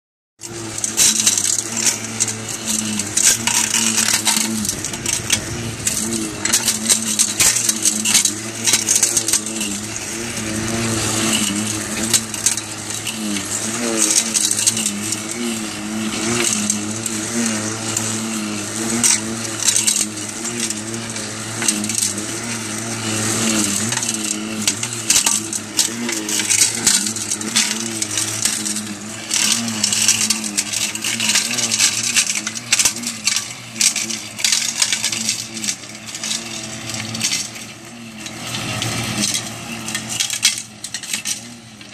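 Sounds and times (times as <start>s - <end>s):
rotary mower cutting grass: 0.4s - 41.9s
stones clicking against metal housing: 0.4s - 41.9s
tractor engine running: 0.4s - 41.9s.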